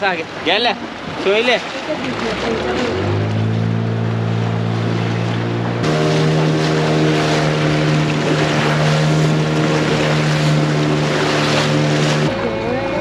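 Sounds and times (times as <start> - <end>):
boat engine running: 0.0 - 13.0
water splashing against hull: 0.0 - 13.0.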